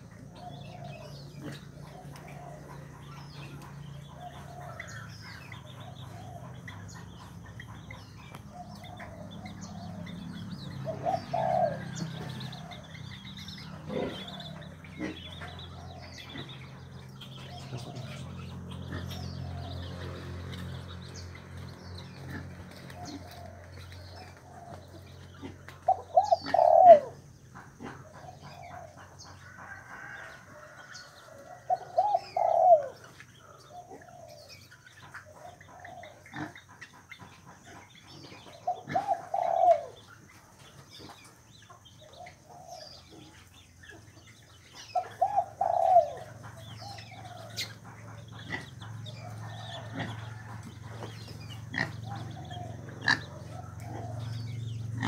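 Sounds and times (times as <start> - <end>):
swamphens calling: 0.0 - 55.0.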